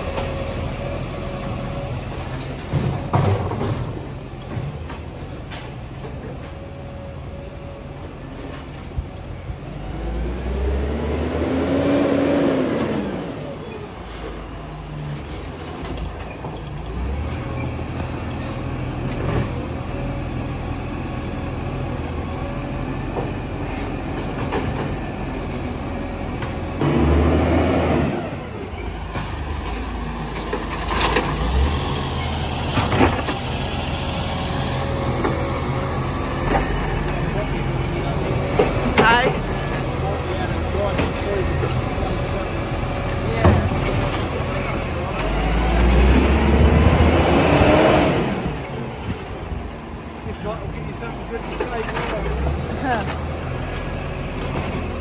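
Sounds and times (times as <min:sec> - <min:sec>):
garbage truck engine: 0:00.0 - 0:55.0.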